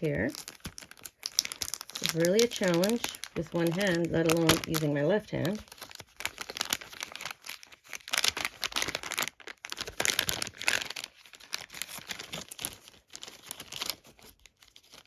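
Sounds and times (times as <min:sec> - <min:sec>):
gift wrapping crinkling: 0:00.0 - 0:15.0.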